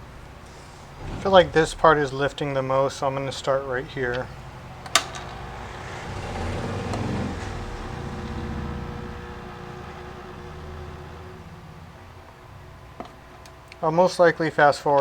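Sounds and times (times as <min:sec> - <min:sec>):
low hum: 0:00.0 - 0:14.6
hot air blower rushing: 0:00.0 - 0:14.7.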